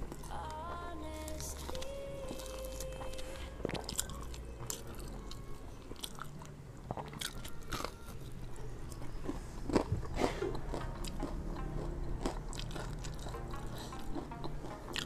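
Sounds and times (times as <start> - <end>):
chewing crunchy snacks: 0.0 - 15.0.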